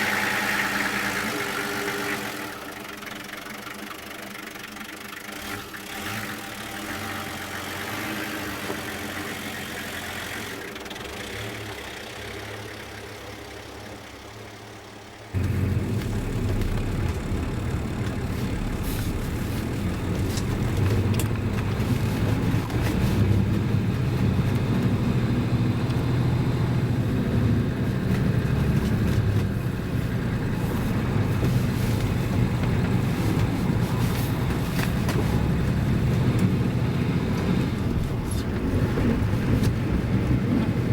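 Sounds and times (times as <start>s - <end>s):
deep rough engine rumble: 0.0s - 40.9s
diesel engine idling: 0.0s - 40.9s.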